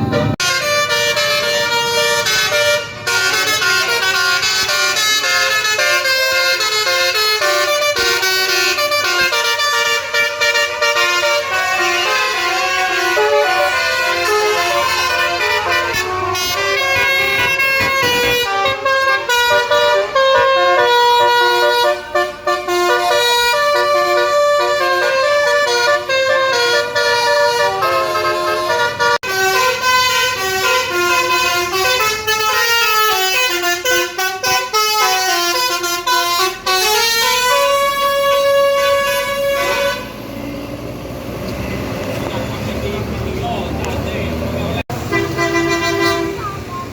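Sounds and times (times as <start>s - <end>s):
musical air horn playing a tune: 0.0s - 40.2s, 45.0s - 46.6s.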